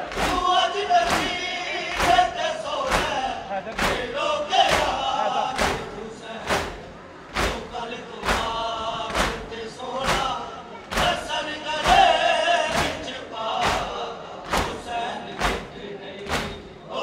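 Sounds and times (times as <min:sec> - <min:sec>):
crowd chanting and wailing: 0:00.0 - 0:17.0
rhythmic chest-beating thumps: 0:00.0 - 0:17.0.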